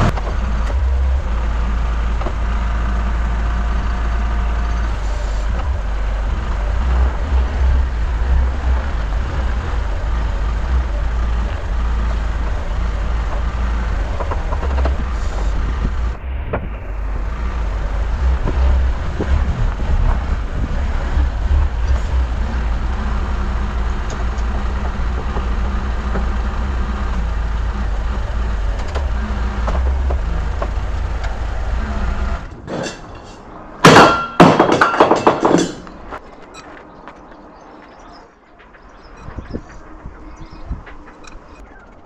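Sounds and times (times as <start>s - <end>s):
truck engine running: 0.0s - 36.2s.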